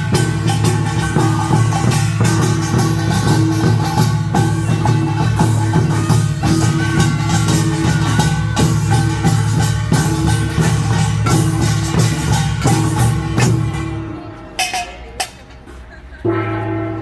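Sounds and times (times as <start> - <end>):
drums: 0.0 - 16.4
small gongs clanging: 0.0 - 17.0.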